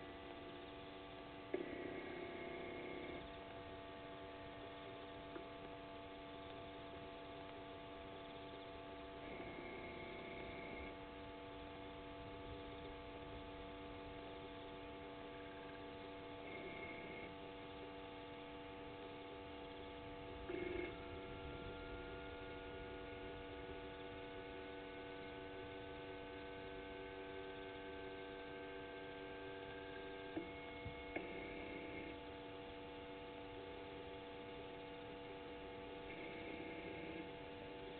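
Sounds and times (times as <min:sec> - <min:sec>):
steady electrical hum: 0:00.0 - 0:37.9.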